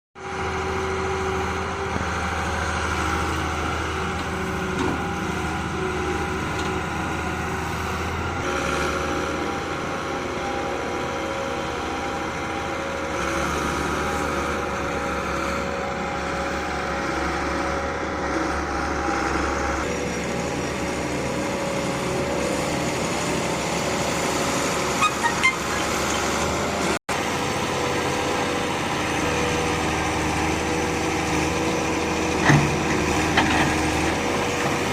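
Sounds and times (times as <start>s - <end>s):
diesel engines running: 0.2s - 34.9s.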